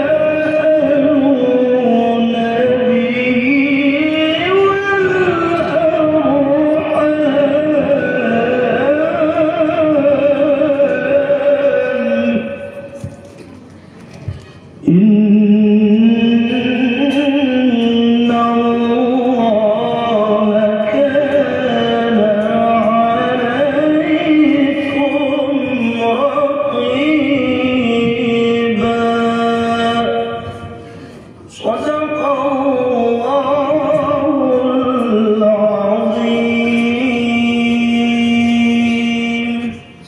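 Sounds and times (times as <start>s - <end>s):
man reciting melodically: 0.0s - 13.1s, 14.7s - 40.0s.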